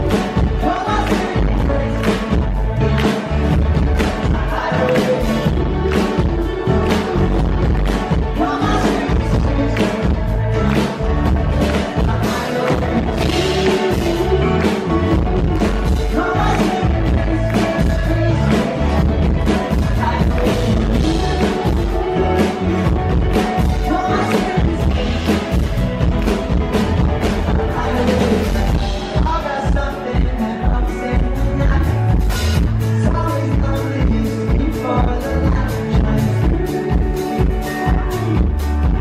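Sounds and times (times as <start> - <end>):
crowd: 0.0 - 39.0
drum kit: 0.0 - 39.0
man singing: 0.0 - 39.0
upright bass: 0.0 - 39.0.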